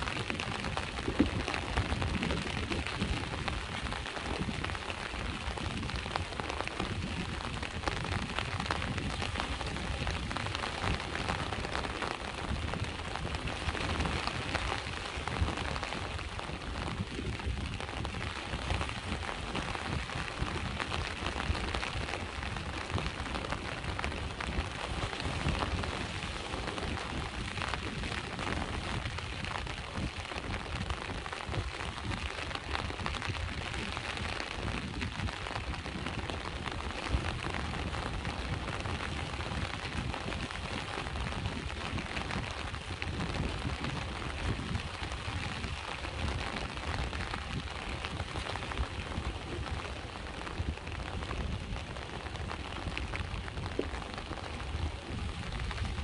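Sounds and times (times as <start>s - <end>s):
sea waves rumbling on shore: 0.0s - 56.0s
steady rain falling: 0.0s - 56.0s.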